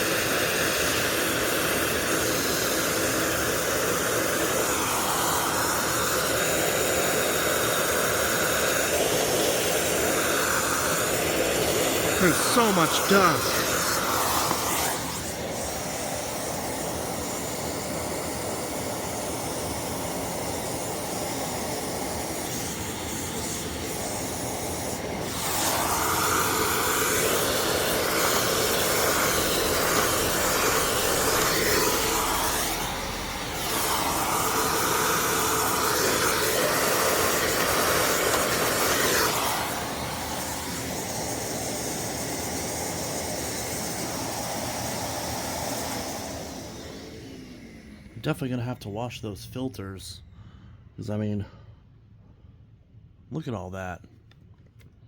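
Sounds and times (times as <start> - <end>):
machine blowing rushing air: 0.0 - 48.2.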